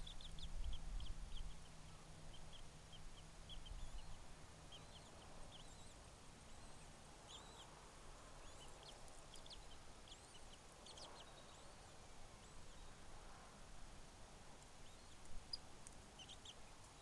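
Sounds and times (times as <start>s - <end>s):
faint high bird chirps: 0.0s - 7.8s, 8.4s - 13.0s, 14.8s - 17.0s
low background hiss: 0.0s - 17.0s.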